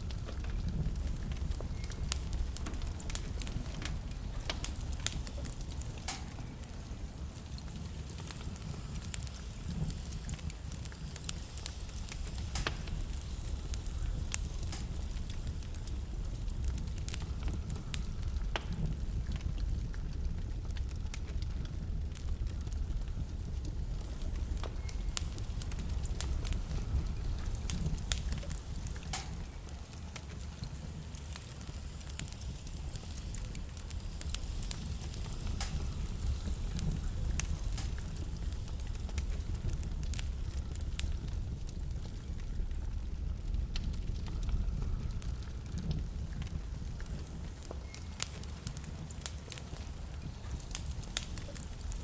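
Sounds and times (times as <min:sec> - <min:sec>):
fire flames rumbling: 0:00.0 - 0:52.0
logs crackling and popping: 0:00.0 - 0:52.0.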